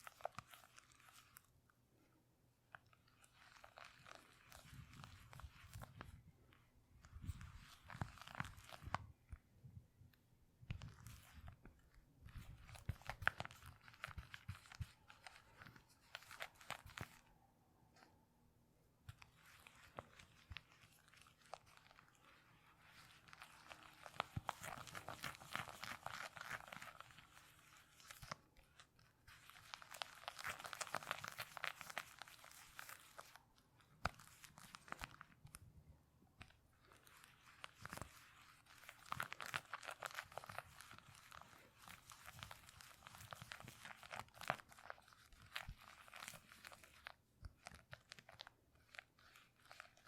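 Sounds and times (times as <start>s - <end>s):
crinkling and crackling: 0.0s - 18.2s, 19.0s - 50.0s.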